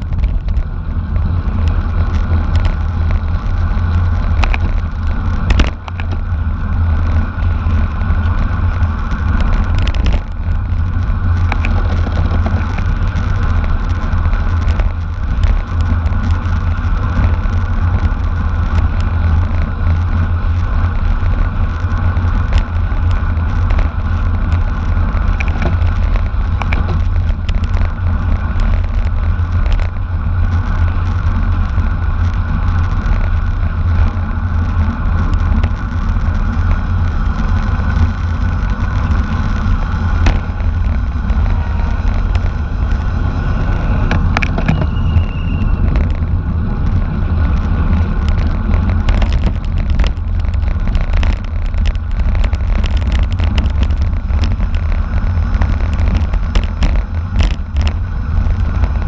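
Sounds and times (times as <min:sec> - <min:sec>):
road rumble: 0:00.0 - 0:59.0
wind buffeting: 0:00.0 - 0:59.0.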